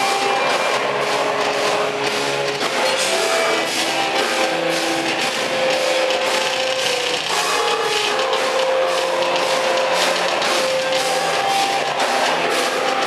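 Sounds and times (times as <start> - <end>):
electric guitar long notes: 0.0 - 13.0
live rock band playing: 0.0 - 13.0.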